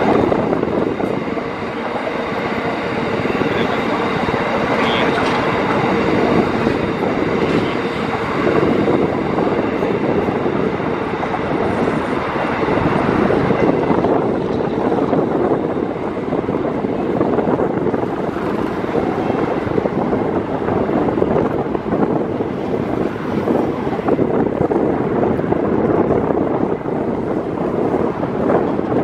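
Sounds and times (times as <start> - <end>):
train wheels on track: 0.0 - 29.0.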